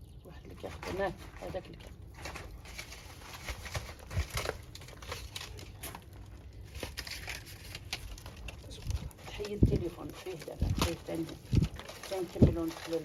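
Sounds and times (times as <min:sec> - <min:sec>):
paper and kindling crinkling: 0:00.5 - 0:13.0.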